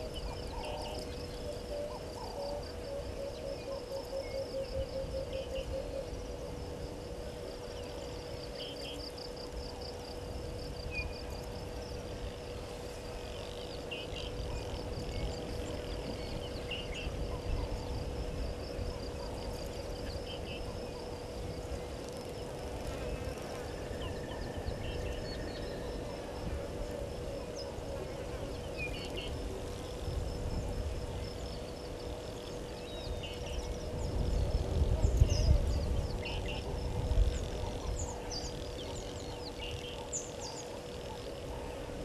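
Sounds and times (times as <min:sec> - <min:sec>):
insects trilling: 0:00.0 - 0:42.0.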